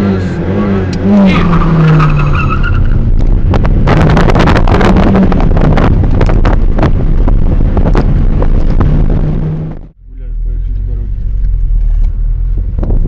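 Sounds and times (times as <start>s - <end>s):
car engine at high revs: 0.0s - 13.0s
road and wind noise: 0.0s - 13.0s.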